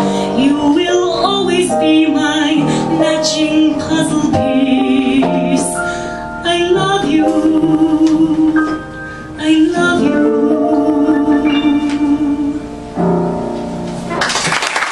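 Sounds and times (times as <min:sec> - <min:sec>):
woman singing: 0:00.0 - 0:12.8
piano accompaniment: 0:00.0 - 0:14.9.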